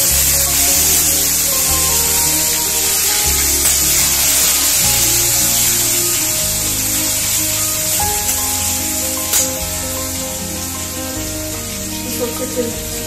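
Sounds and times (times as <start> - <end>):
background music: 0.0 - 13.0
food sizzling in oil: 0.0 - 13.0.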